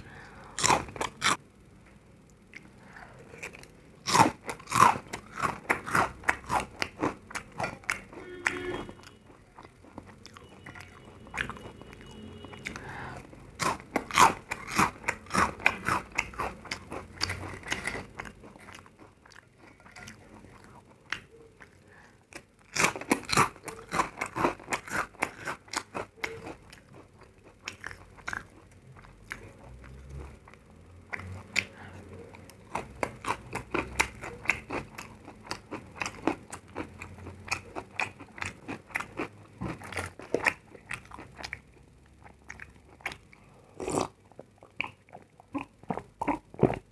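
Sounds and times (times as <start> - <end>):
person chewing crunchy food: 0.0 - 1.4, 2.3 - 46.9.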